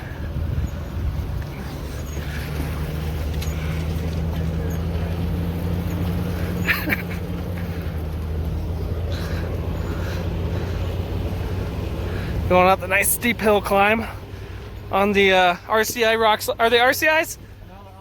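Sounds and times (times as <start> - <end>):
vehicle engine at low revs: 0.0 - 18.0.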